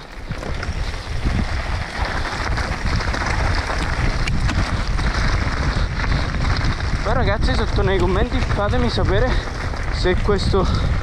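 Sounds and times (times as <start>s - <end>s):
bike clicks and knocks: 0.0s - 10.3s
tyres crunching over gravel: 0.0s - 11.0s
wind buffeting microphone: 0.0s - 11.0s.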